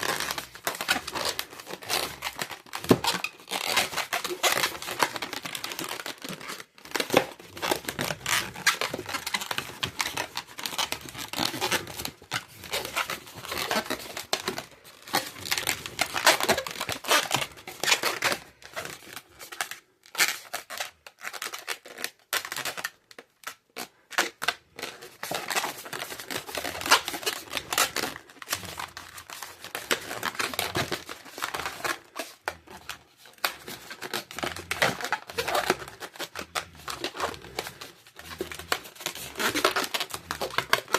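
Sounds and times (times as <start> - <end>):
balloons rubbing and crinkling: 0.0 - 40.9.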